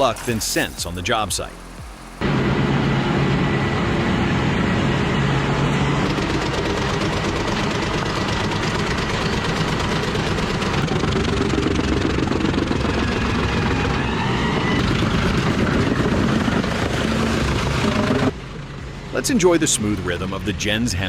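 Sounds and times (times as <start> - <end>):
heavy vehicle engine under load: 0.0 - 20.4.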